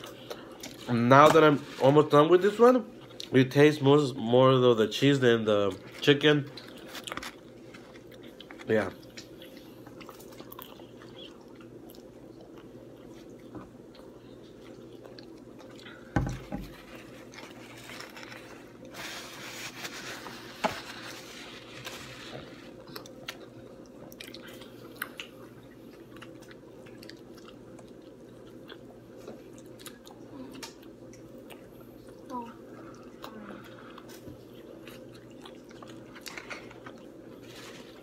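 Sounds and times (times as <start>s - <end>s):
person chewing food: 0.0s - 1.0s, 2.9s - 3.3s, 5.8s - 38.0s.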